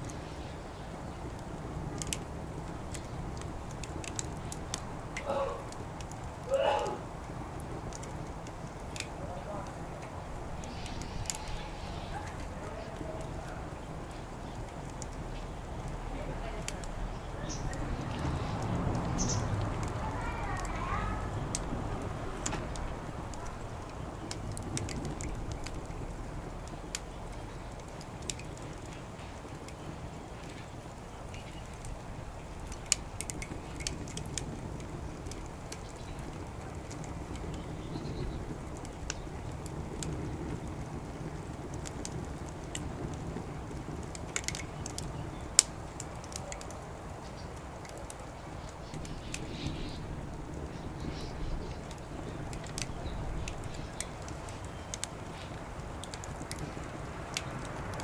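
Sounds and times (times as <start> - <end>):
low background rumble: 0.0 - 58.0
wood fire crackling: 0.0 - 58.0.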